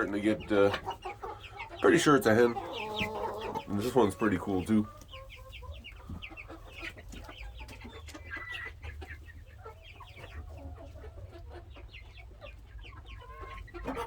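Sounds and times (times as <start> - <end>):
chickens clucking and cheeping: 0.0 - 14.0.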